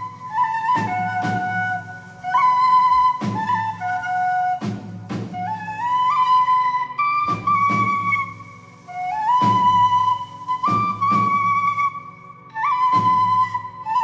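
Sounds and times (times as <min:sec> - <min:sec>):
flute melody: 0:00.0 - 0:14.0
low steady accompaniment: 0:00.0 - 0:14.0.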